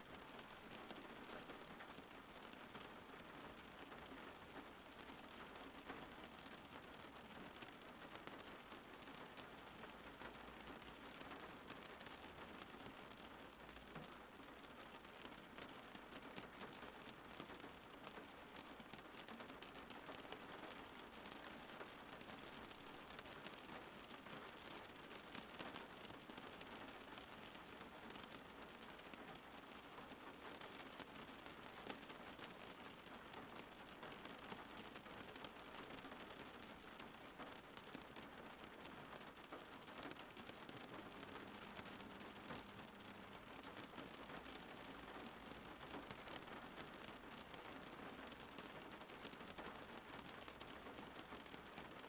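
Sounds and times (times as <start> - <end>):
faint steady rain: 0.0 - 52.0.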